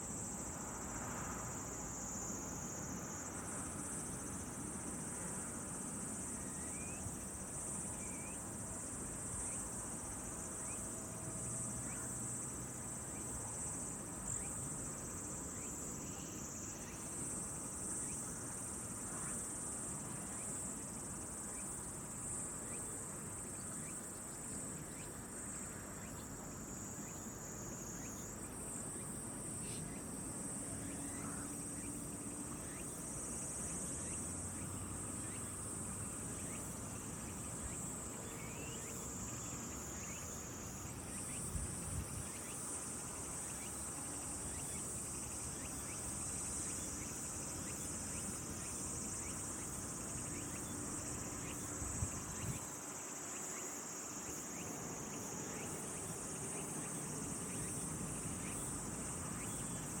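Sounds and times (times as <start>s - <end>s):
faint outdoor background: 0.0s - 60.0s
insects trilling: 0.0s - 60.0s.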